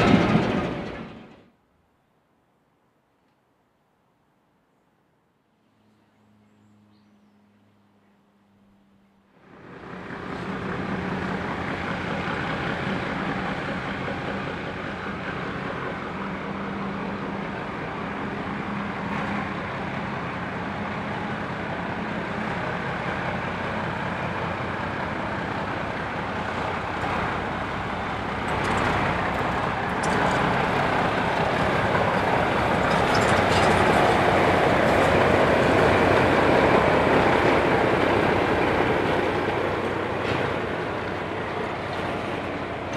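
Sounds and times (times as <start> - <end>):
diesel locomotive engine running: 0.0 - 1.6, 8.0 - 42.9
wheels clicking over rail joints: 0.0 - 1.6, 9.7 - 42.9.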